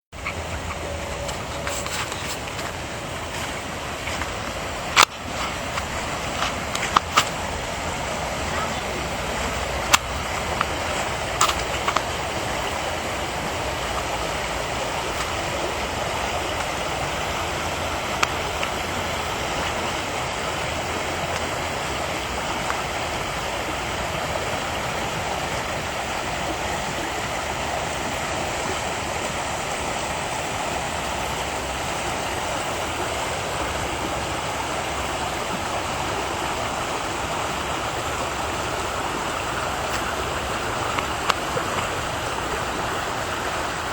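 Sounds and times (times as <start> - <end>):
mountain stream rushing: 0.1 - 43.9.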